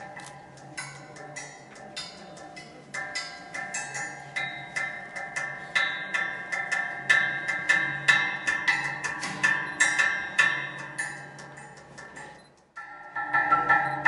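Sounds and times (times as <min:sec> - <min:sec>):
metal sculpture struck with sticks: 0:00.0 - 0:14.0.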